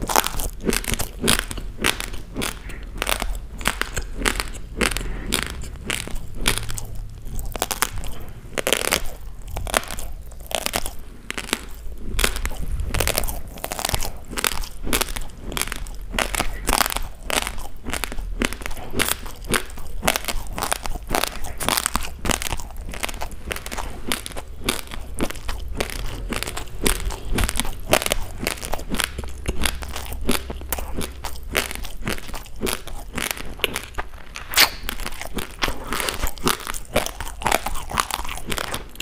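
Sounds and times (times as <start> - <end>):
chewing raw rice crunching: 0.0 - 39.0.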